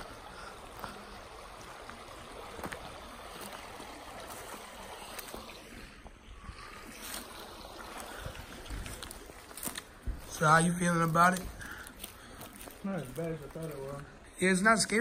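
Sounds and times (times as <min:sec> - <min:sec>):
running water in a creek: 0:00.0 - 0:15.0.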